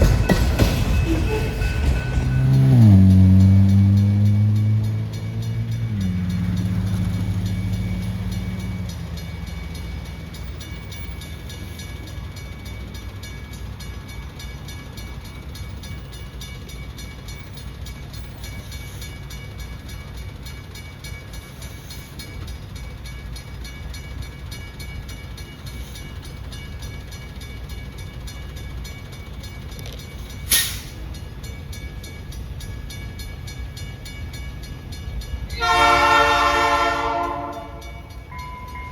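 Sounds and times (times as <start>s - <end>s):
freight train rumbling: 0.0s - 38.9s
low engine tone: 0.0s - 38.9s.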